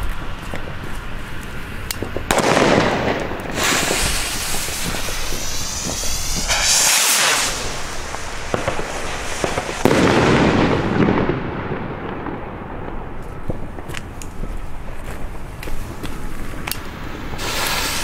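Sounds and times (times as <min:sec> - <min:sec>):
firework rockets launching with hiss: 0:00.2 - 0:12.4, 0:15.7 - 0:18.0.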